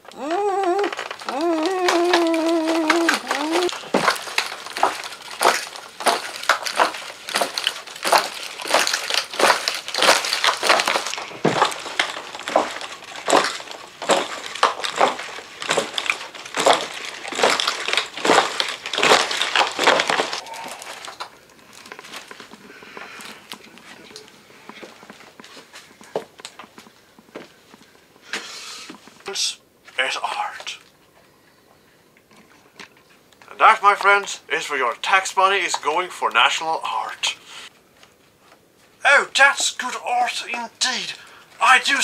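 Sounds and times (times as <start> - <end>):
crunching and crumpling: 0.0 - 42.0.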